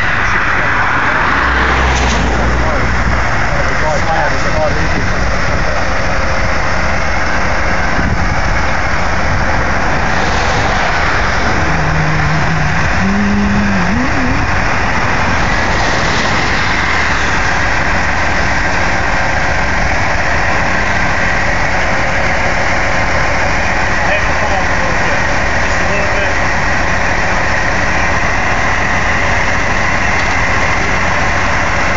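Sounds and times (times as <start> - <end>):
diesel truck engine running: 0.0 - 31.9.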